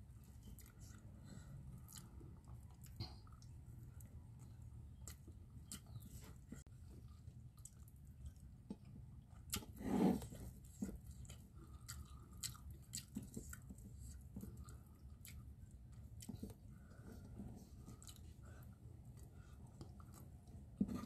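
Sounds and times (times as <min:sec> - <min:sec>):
chewing and smacking of food: 0:00.2 - 0:21.0.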